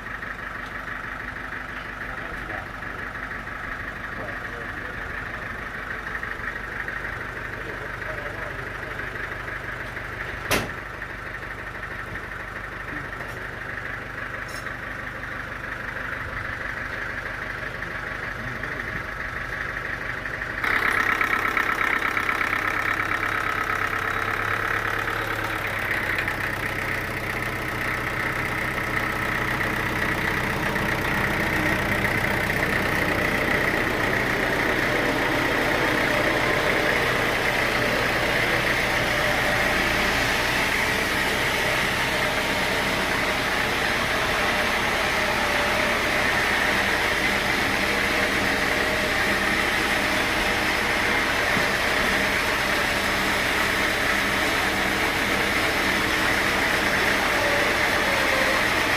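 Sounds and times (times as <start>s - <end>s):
sawmill machinery running: 0.0s - 58.9s.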